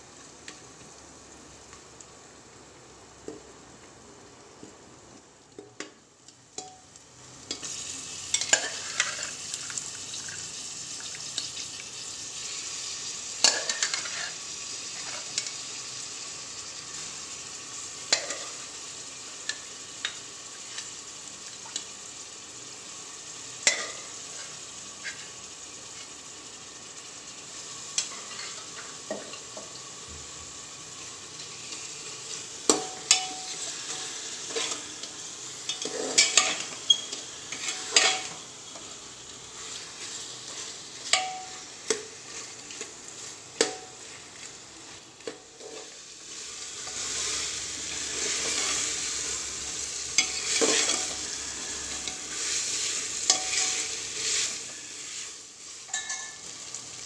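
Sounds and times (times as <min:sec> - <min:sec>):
meat sizzling in a pot: 0:00.0 - 0:57.0.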